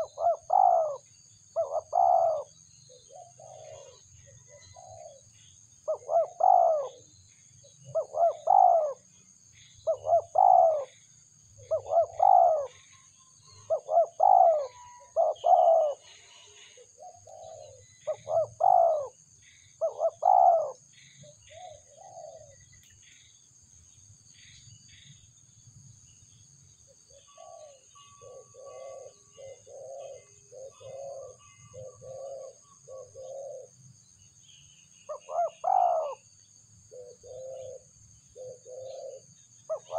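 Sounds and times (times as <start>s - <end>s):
doves cooing: 0.0s - 22.8s, 27.0s - 33.8s, 35.1s - 39.9s.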